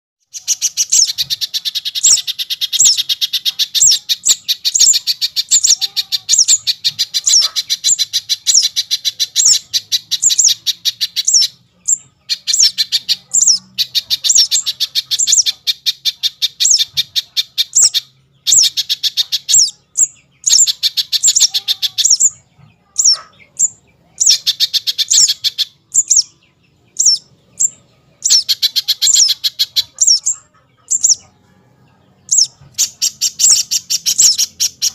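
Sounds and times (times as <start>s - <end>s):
small songbird twittering: 0.2s - 31.4s, 32.2s - 34.9s.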